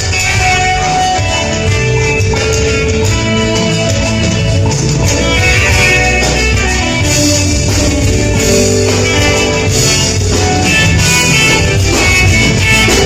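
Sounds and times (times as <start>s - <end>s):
band music led by guitar: 0.0s - 13.0s
steady bass line: 0.0s - 13.0s.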